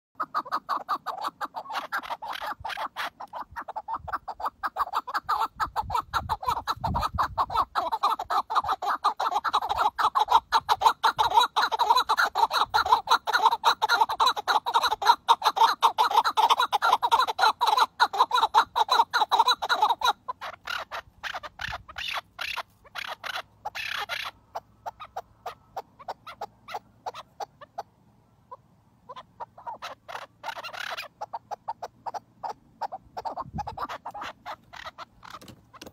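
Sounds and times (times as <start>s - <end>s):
partridges clucking calls: 0.2s - 35.9s.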